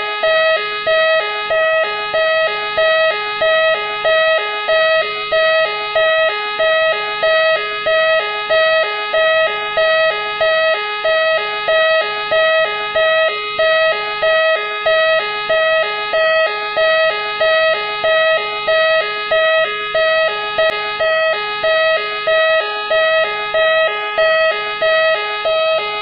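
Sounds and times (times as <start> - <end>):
police siren high-low: 0.0 - 26.0.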